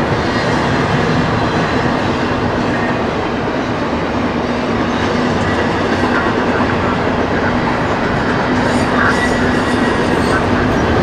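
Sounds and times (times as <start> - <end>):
steel wheels rolling on rails: 0.0 - 11.0.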